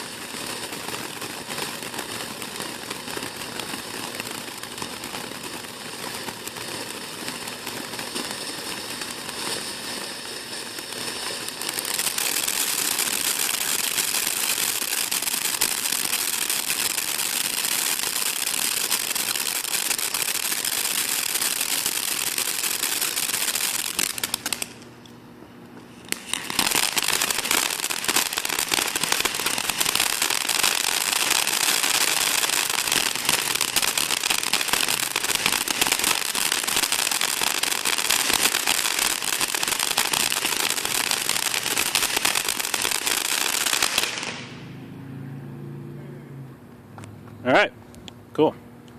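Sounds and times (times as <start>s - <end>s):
firework fountain hissing and crackling: 0.0s - 24.9s, 25.7s - 44.8s.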